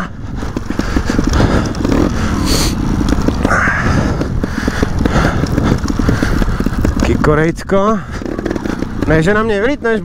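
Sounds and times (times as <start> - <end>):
two-stroke dirt bike engine: 0.0 - 10.0.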